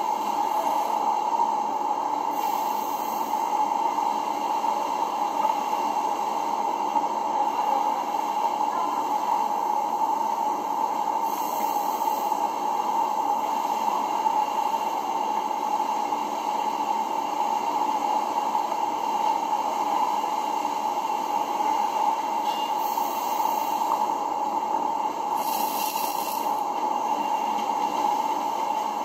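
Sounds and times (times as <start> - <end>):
steady hiss-like noise: 0.0 - 29.0.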